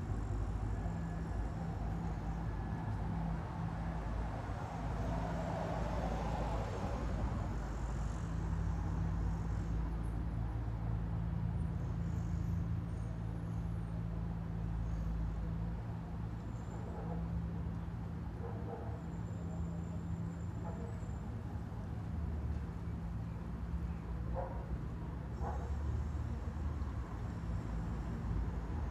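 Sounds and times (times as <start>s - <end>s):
idling and passing engines: 0.0s - 28.9s
tyre and traffic noise: 0.0s - 28.9s.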